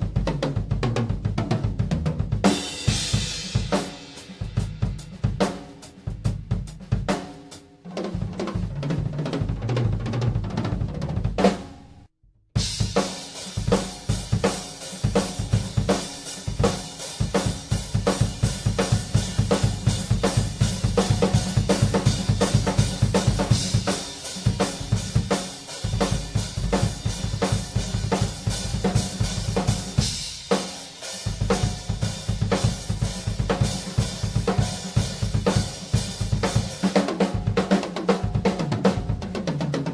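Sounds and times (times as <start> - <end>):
drum groove with cymbals: 0.0 - 11.7, 12.6 - 39.9.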